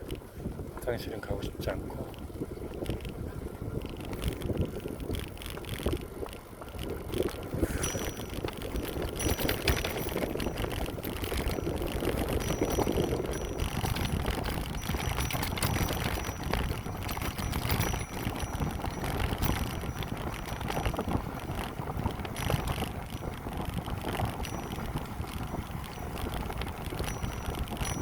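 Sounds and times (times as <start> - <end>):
bicycle tyre and drivetrain noise: 0.0 - 28.0
wind on microphone: 0.0 - 28.0.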